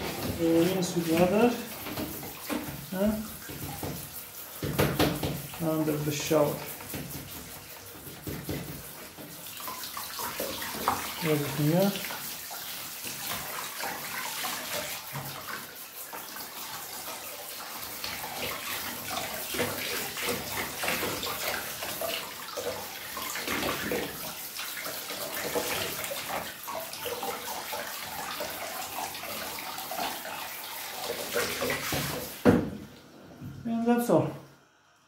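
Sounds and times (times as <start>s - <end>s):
shower spray hissing on metal plate: 0.0s - 32.4s.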